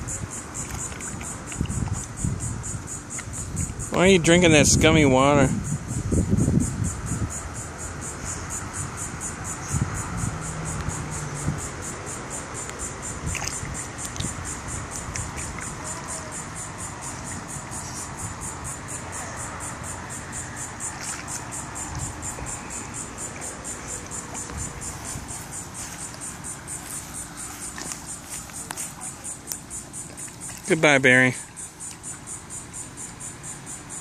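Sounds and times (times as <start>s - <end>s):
insects chirping: 0.0s - 34.0s.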